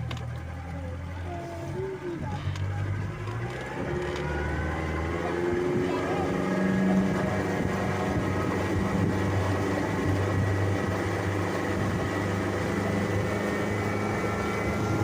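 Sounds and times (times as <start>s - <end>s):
boat outboard motor running: 0.0s - 15.0s.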